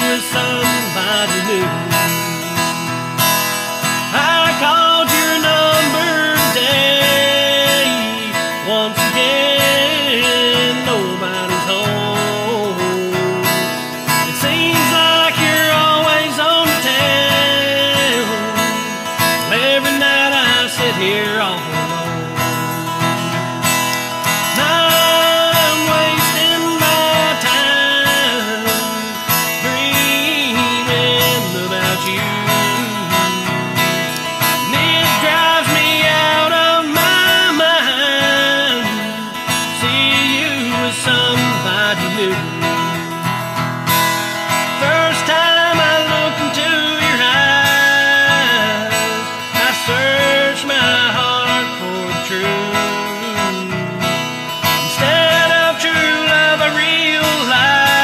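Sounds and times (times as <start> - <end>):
country music with acoustic guitar: 0.0 - 58.0.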